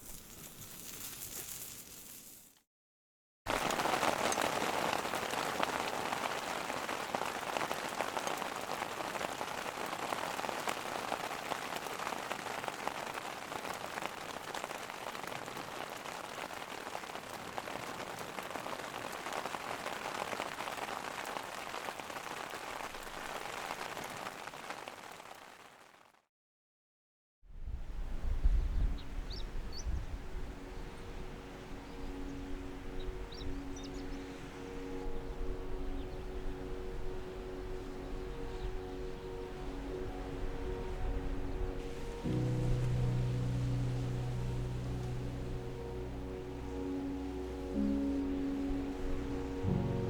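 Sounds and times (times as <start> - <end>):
rain falling on a surface: 3.5 - 26.2, 29.1 - 50.0.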